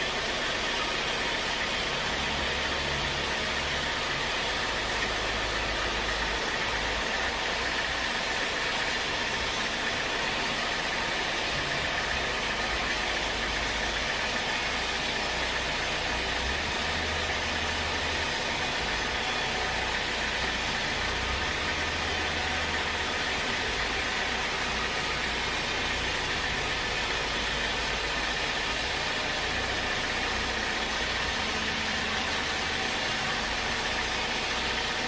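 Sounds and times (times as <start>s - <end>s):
sawmill machinery running: 0.0s - 35.0s.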